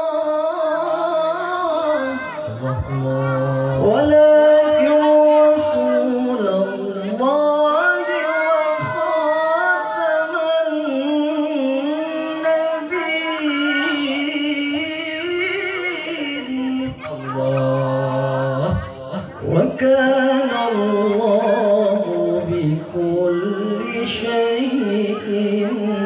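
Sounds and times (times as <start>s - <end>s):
man chanting over loudspeaker: 0.0s - 26.0s.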